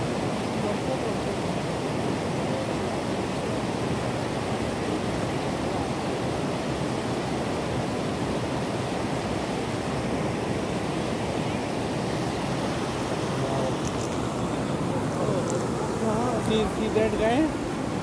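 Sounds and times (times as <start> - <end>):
water cascading over rocks: 0.0 - 18.0.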